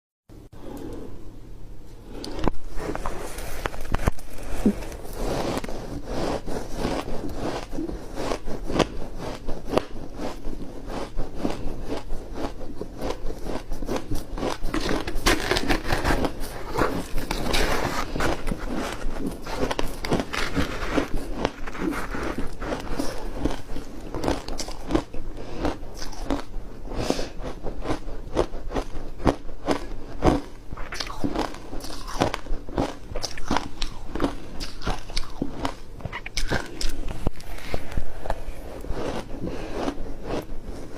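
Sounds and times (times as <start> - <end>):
crunchy chewing of frozen ice: 2.1 - 40.9.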